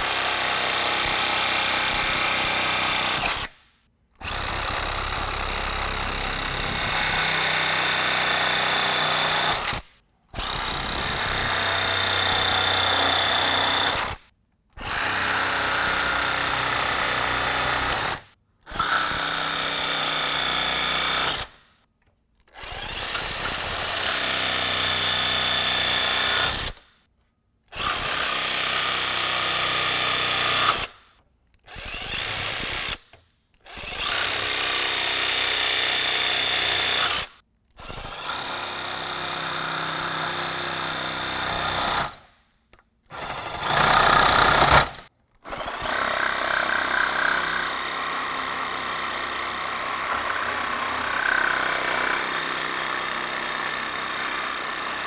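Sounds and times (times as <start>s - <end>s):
jigsaw cutting plastic: 0.0s - 3.6s, 10.4s - 21.5s, 22.4s - 26.9s, 27.7s - 30.9s, 31.6s - 42.3s, 43.1s - 55.0s.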